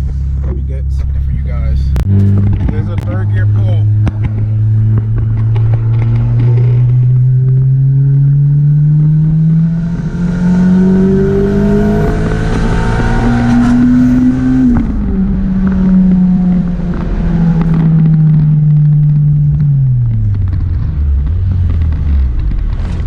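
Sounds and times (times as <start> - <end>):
turbocharged car engine revving: 0.0 - 23.0.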